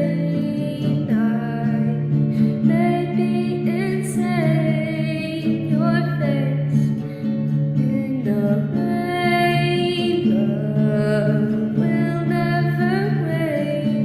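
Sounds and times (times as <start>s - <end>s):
acoustic guitar chords: 0.0s - 14.0s
person singing: 0.0s - 14.0s.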